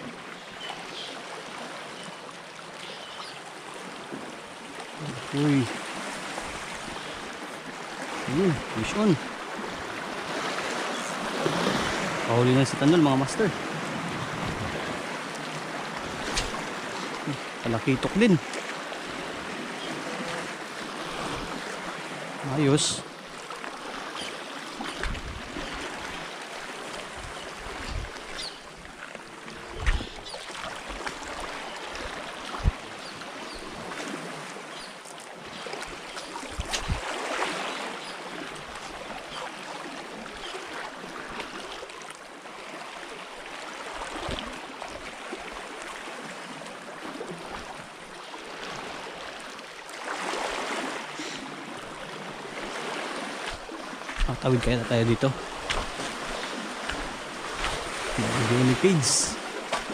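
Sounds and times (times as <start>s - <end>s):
small waves at the shore: 0.0s - 59.9s.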